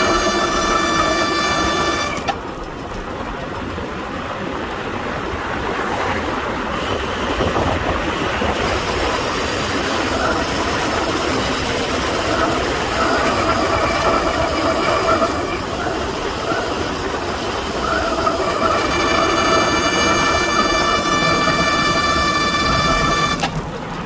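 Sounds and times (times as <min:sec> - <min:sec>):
disc brakes squealing: 0:00.0 - 0:02.5, 0:06.8 - 0:23.6
wind and road noise rushing: 0:00.0 - 0:24.0.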